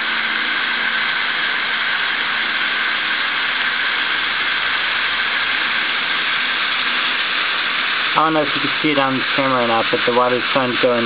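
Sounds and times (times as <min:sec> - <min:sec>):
water hissing from hose: 0:00.6 - 0:11.0.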